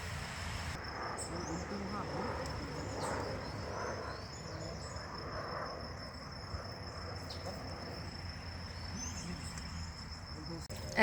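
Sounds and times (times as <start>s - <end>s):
insects trilling: 0.0s - 11.0s
low outdoor ambience: 0.0s - 11.0s.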